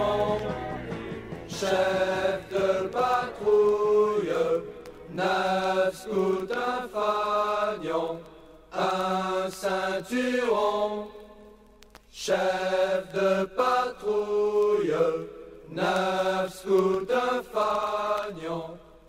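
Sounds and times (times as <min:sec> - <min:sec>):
person chanting singing: 0:00.0 - 0:11.5, 0:12.1 - 0:18.9.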